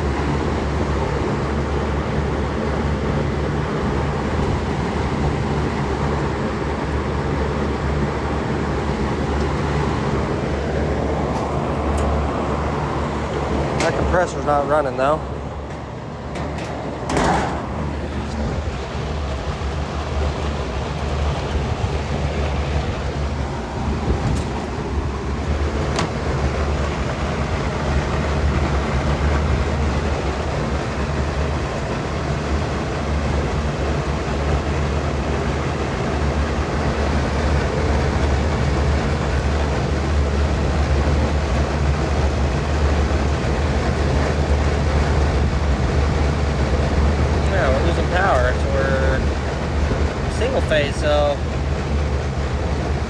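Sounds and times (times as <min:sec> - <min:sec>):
condenser fan humming: 0:00.0 - 0:53.0.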